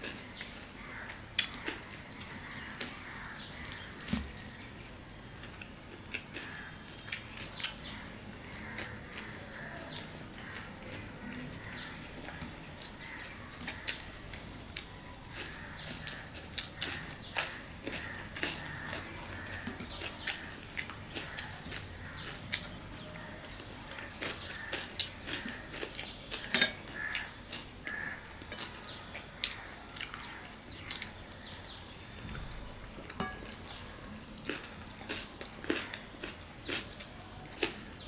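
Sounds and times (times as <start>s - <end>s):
man chewing with wet smacks: 0.0s - 4.6s, 8.6s - 31.4s, 33.0s - 38.0s.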